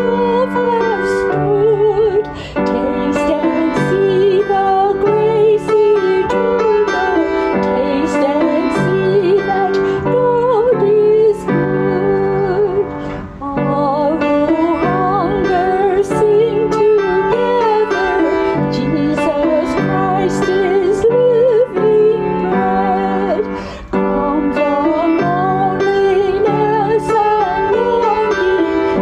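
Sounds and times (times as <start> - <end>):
upright piano: 0.0 - 29.0
woman singing a hymn: 0.0 - 29.0.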